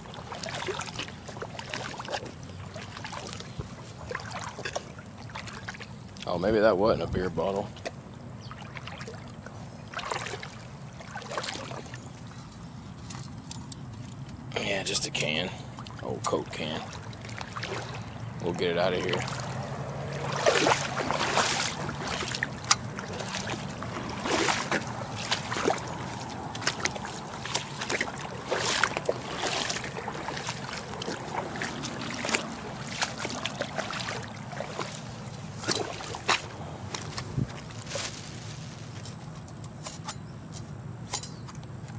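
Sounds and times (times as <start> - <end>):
water splashing in a creek: 0.0 - 13.8, 14.6 - 40.0.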